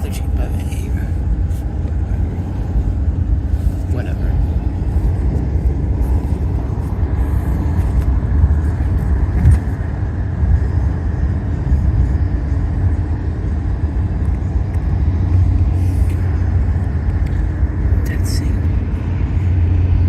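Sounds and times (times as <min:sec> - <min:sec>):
car cabin road rumble: 0:00.0 - 0:20.0.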